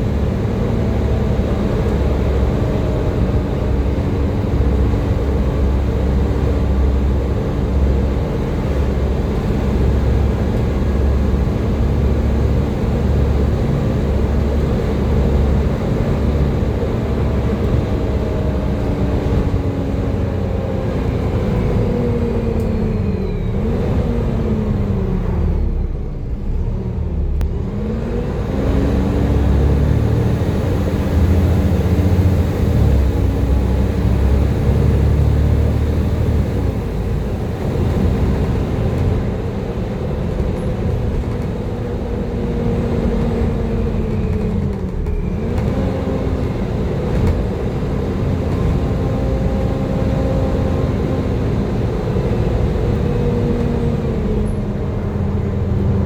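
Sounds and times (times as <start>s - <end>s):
bus engine: 0.0s - 56.0s
bus whine: 0.0s - 56.0s.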